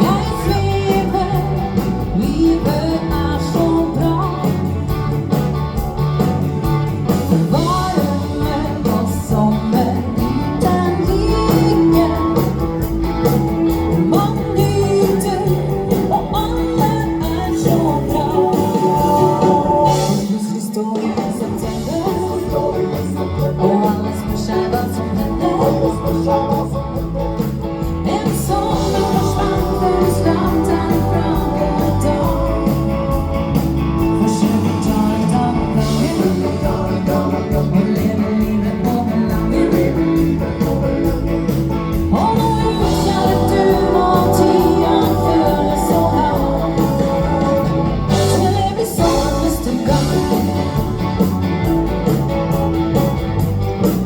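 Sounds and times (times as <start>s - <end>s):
person singing: 0.0s - 53.2s
live dance band playing: 0.0s - 54.0s.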